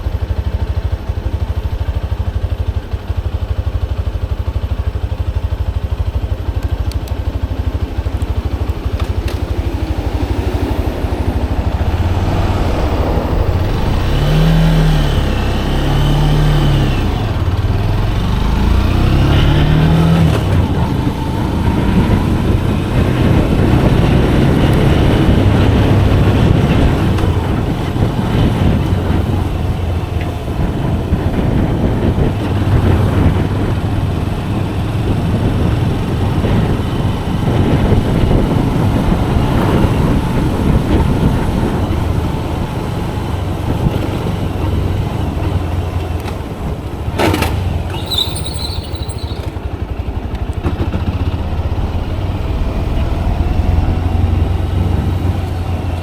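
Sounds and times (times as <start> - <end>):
motorcycle engine running: 0.0 - 56.0
road noise: 0.0 - 56.0
wind: 0.0 - 56.0.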